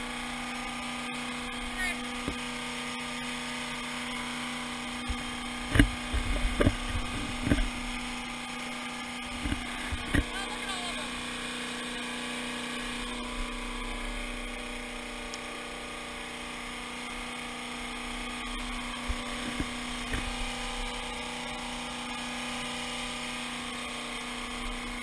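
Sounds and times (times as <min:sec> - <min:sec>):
boat motor humming: 0:00.0 - 0:25.0.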